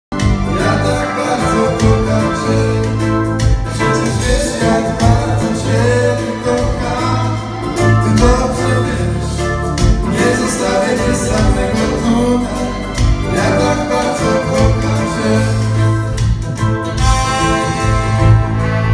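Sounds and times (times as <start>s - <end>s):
bass guitar: 0.1s - 18.9s
drums: 0.1s - 18.9s
electric guitar: 0.1s - 18.9s
keyboards: 0.1s - 18.9s
person singing: 0.2s - 16.2s.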